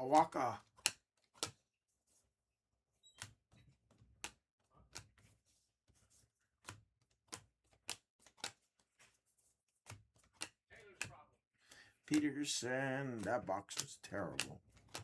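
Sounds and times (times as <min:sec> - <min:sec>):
cards being flipped: 0:00.0 - 0:01.6, 0:03.2 - 0:15.0.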